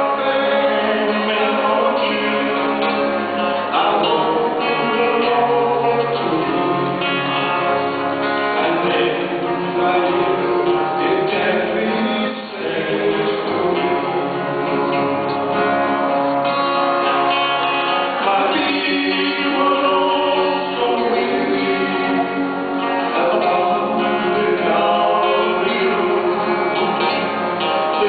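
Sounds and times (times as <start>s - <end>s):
men singing a duet: 0.0s - 7.8s, 8.4s - 14.8s, 17.0s - 28.0s
lead guitar: 0.0s - 28.0s.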